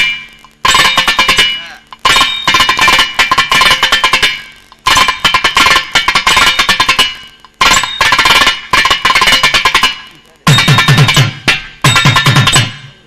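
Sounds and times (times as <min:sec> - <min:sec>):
drum solo sharp strokes: 0:00.0 - 0:13.0.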